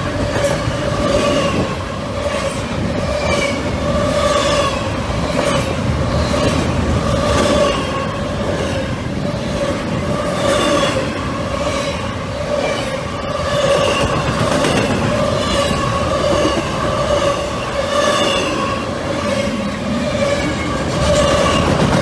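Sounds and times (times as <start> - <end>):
freight train rumbling and clattering: 0.0 - 22.0.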